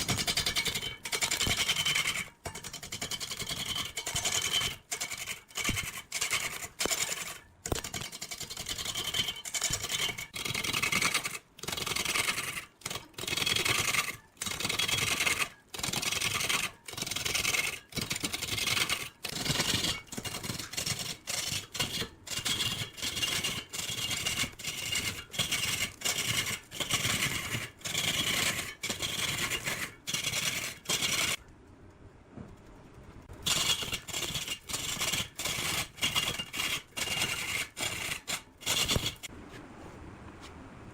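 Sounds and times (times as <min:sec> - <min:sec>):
hand tool scraping wood: 0:00.0 - 0:31.4, 0:33.4 - 0:39.3.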